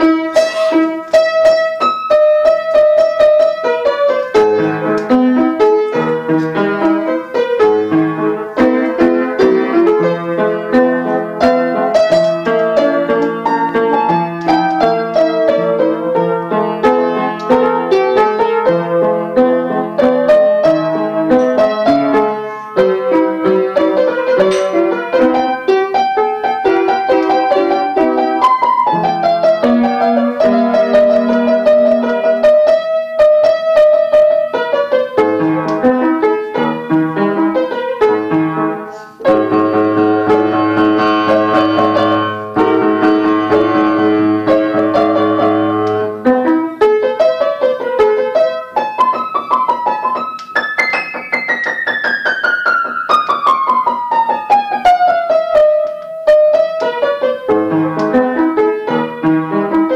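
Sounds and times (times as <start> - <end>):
solo piano: 0.0 - 59.9.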